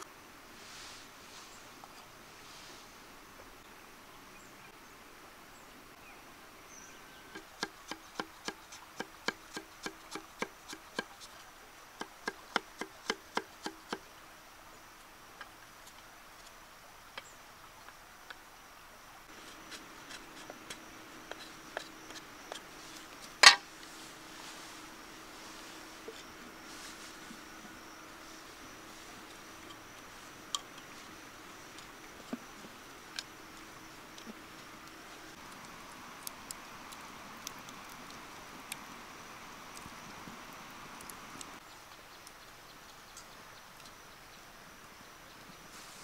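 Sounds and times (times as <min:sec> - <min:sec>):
faint insect buzz: 0:00.0 - 0:46.0.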